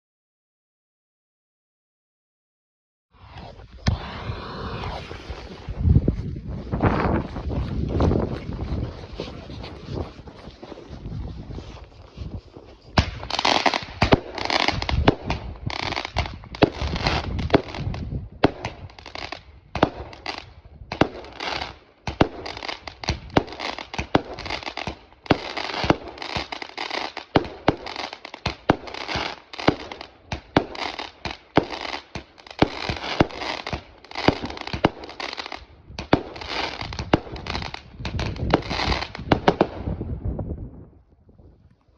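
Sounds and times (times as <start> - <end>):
firework shots and crackling: 3.2 - 11.3, 12.9 - 40.2.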